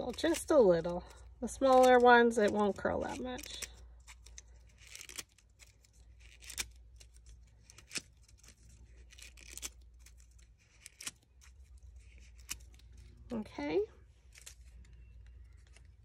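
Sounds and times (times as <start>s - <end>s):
paper scraping and rustling: 0.0s - 13.2s.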